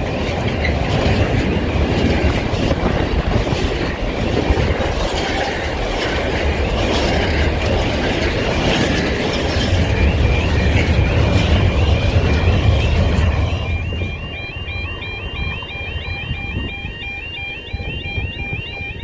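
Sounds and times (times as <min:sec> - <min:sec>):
loud rumbling and rattling: 0:00.0 - 0:16.7
warbling tone: 0:02.1 - 0:19.0.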